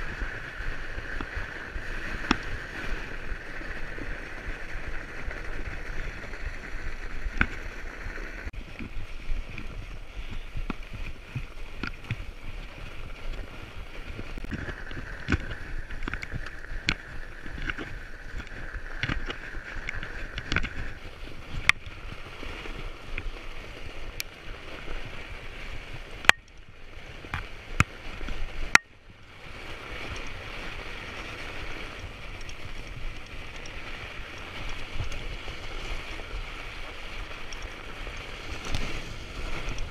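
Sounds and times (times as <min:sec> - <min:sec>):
bike tyres rolling on snow: 0:00.0 - 0:39.9.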